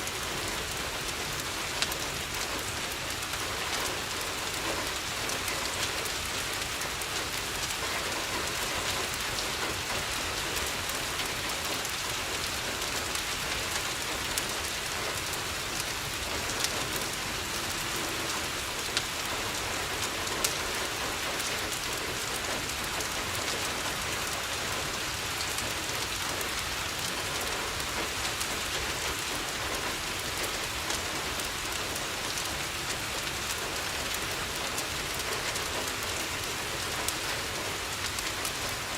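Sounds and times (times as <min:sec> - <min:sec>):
rain on a window: 0:00.0 - 0:38.9
wood fire crackling: 0:00.0 - 0:38.9.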